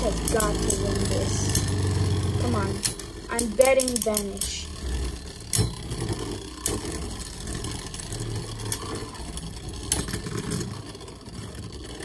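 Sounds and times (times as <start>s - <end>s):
spinning tops clacking together: 0.0s - 1.8s, 2.7s - 10.7s
spinning tops whirring: 0.0s - 12.0s.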